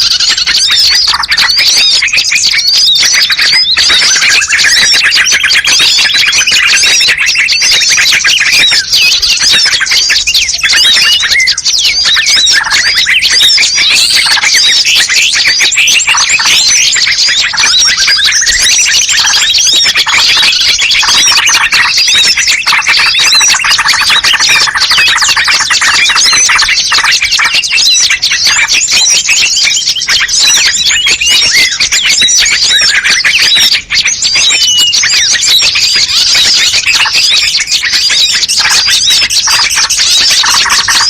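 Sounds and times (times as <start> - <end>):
long rising bird trill: 0.0 - 41.0
songbirds chirping and calling: 0.0 - 41.0.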